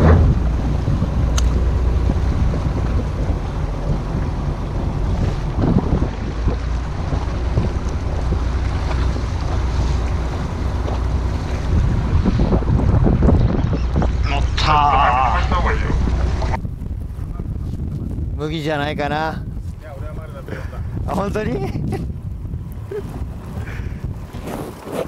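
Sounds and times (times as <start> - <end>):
waves washing against hull: 0.0 - 25.0
wind buffeting microphone: 0.0 - 25.0.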